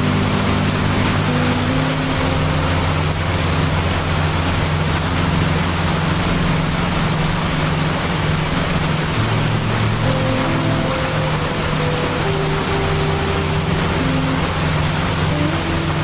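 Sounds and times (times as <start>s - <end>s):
heavy rain: 0.0s - 16.0s
low sustained drone: 0.0s - 16.0s.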